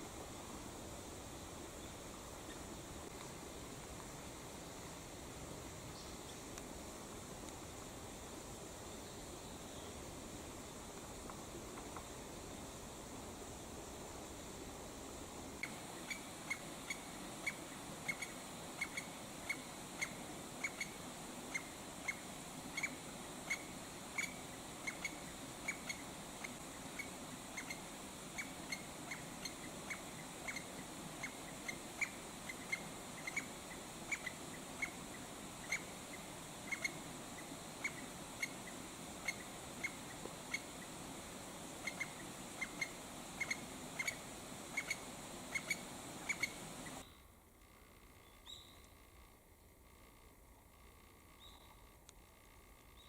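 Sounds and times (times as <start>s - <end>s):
faint background hiss: 0.0s - 53.0s.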